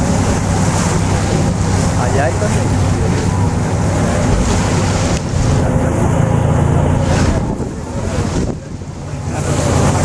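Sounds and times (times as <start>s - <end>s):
boat engine rumble: 0.0s - 10.0s
water rushing: 0.0s - 10.0s
wind buffeting microphone: 0.0s - 10.0s.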